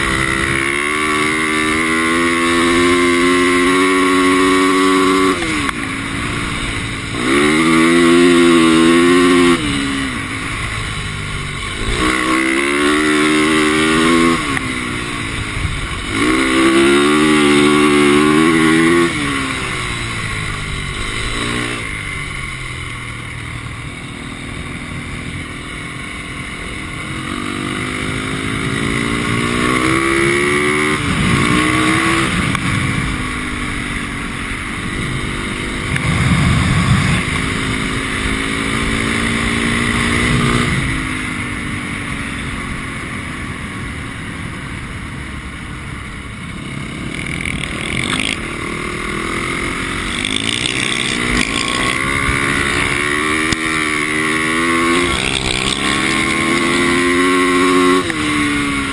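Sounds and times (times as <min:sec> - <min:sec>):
dirt bike engine revving: 0:00.0 - 0:23.4, 0:24.6 - 0:42.8, 0:46.4 - 0:58.9.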